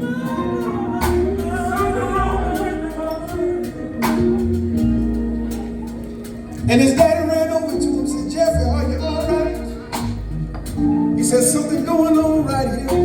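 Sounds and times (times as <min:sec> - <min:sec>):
bass line: 0:00.0 - 0:13.0
gospel band playing soft chords: 0:00.0 - 0:13.0.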